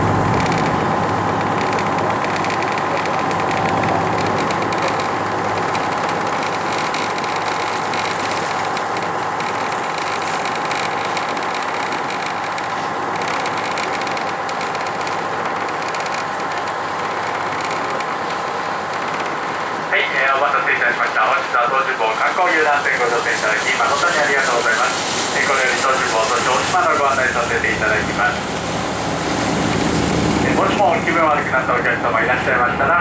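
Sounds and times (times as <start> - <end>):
boat engine humming: 0.0 - 33.0
faint steady whine: 0.0 - 33.0.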